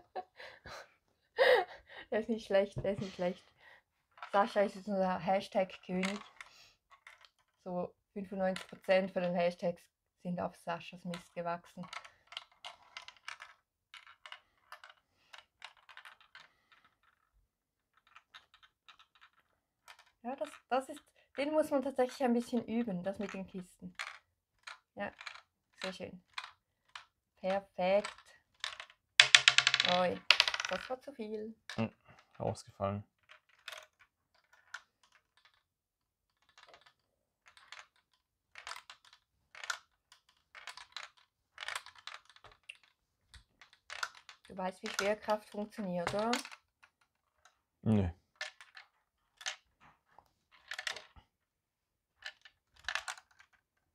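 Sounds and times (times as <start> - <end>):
ball clicking in plastic maze: 2.4 - 9.7, 10.8 - 32.6, 33.2 - 47.7, 48.3 - 51.4, 52.0 - 53.9.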